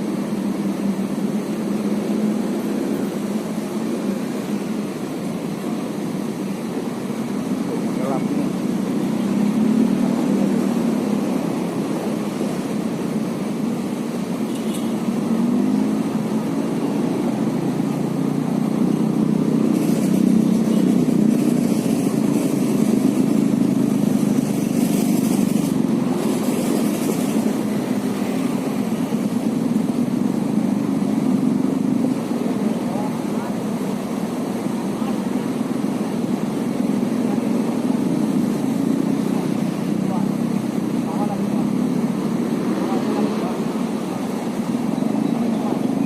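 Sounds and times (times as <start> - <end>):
steady engine drone: 0.0 - 46.0.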